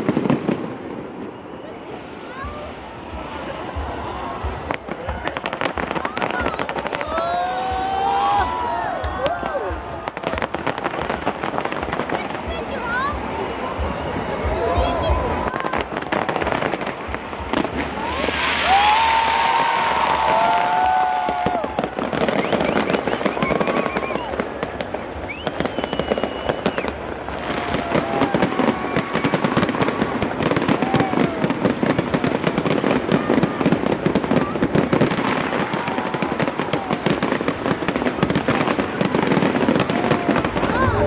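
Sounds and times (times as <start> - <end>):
crowd voices: 0.0 - 41.0
fireworks crackling and popping: 0.0 - 41.0
fireworks whistling: 0.0 - 41.0.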